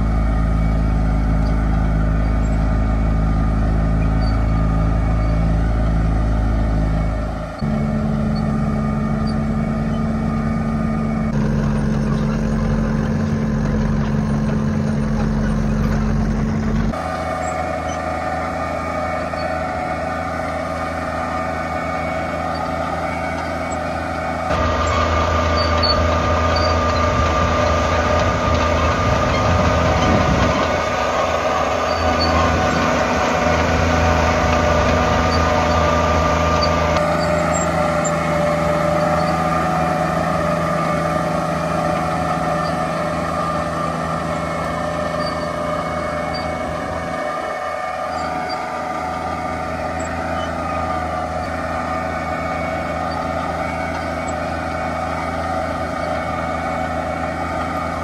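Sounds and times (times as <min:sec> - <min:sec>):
diesel tractor engines running: 0:00.0 - 0:58.0
steady whine: 0:00.0 - 0:58.0.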